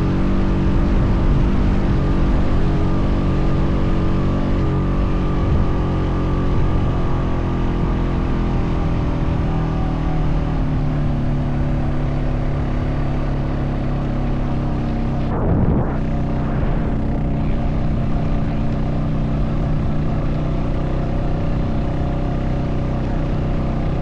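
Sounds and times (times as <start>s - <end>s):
atv engine running under load: 0.0s - 24.0s.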